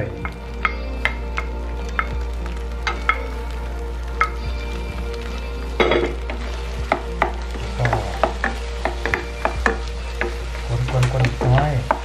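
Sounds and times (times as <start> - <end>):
light frying sizzle: 0.0 - 12.0.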